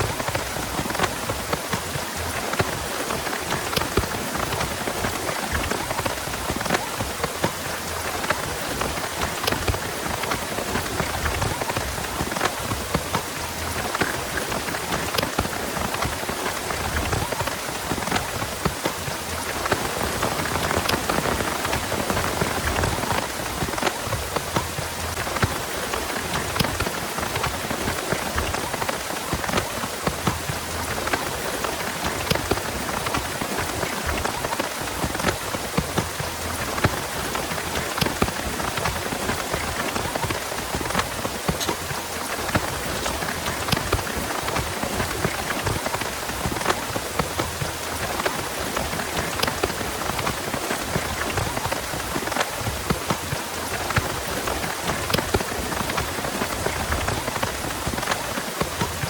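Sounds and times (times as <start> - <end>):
heavy rain falling: 0.0 - 59.0
raindrops ticking on surfaces: 0.0 - 59.0.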